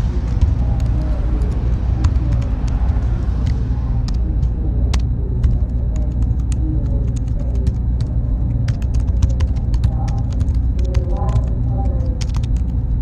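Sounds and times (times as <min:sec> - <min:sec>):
faint high whine: 0:00.0 - 0:13.0
low machine hum: 0:00.0 - 0:13.0
keyboard clicks: 0:00.2 - 0:12.7.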